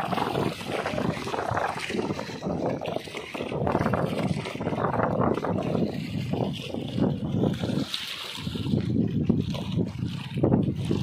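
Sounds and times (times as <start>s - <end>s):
water splashing against rocky shore: 0.0s - 11.0s.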